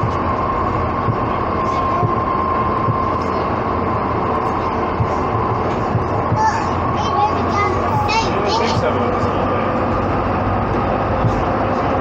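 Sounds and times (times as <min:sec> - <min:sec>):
high train whine: 0:00.0 - 0:12.0
low track thumps: 0:00.0 - 0:12.0
train wheels rumbling on rail: 0:00.0 - 0:12.0.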